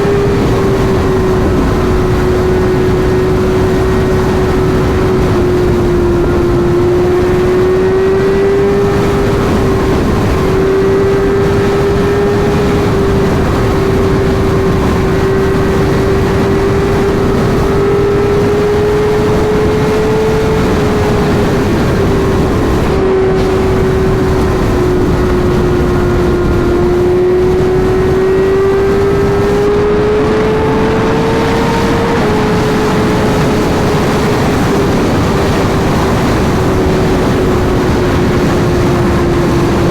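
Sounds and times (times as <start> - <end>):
heavy wind rush: 0.0 - 39.9
motorcycle engine at high speed: 0.0 - 39.9.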